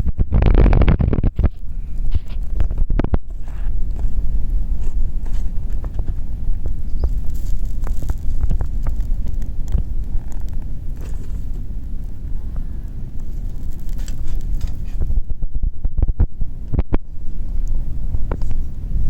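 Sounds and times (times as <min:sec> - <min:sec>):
fire crackling: 0:00.0 - 0:19.0
low fire rumble: 0:00.0 - 0:19.0.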